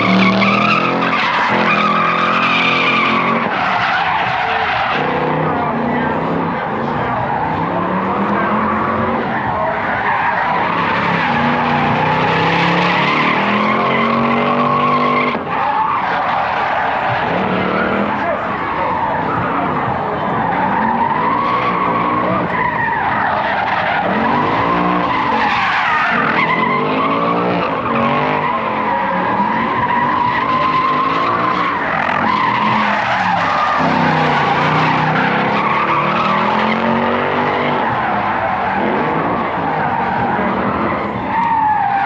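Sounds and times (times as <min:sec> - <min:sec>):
engine revving: 0:00.0 - 0:15.5, 0:16.2 - 0:41.4
car tyres squealing: 0:00.0 - 0:42.0.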